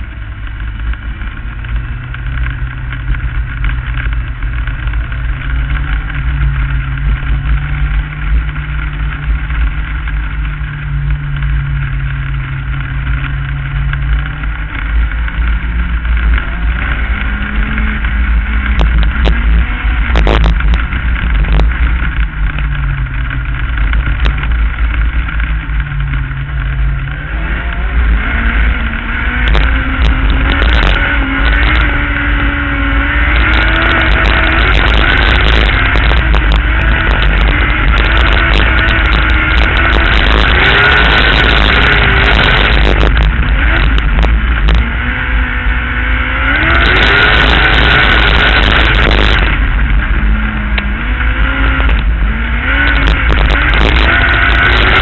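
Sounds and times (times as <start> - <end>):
race car engine running hard: 0.0 - 55.0
wind rumble on microphone: 0.0 - 55.0.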